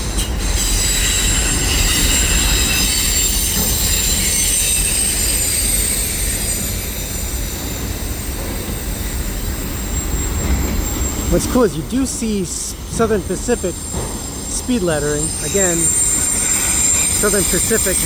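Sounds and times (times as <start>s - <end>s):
train wheels squealing: 0.0s - 11.8s, 12.7s - 18.0s
train rumble: 0.0s - 18.0s.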